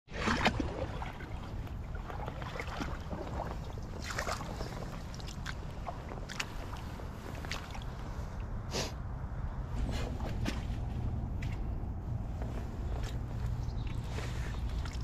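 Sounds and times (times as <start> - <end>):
wind rumble on microphone: 0.1 - 15.0.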